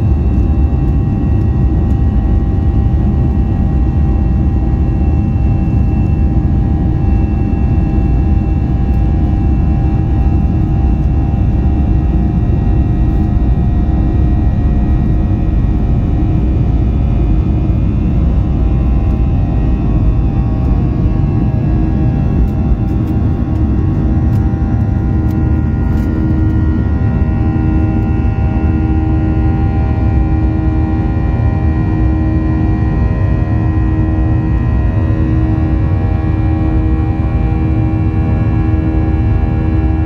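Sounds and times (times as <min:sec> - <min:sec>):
engine whine: 0:00.0 - 0:40.0
jet engines roaring in cabin: 0:00.0 - 0:40.0.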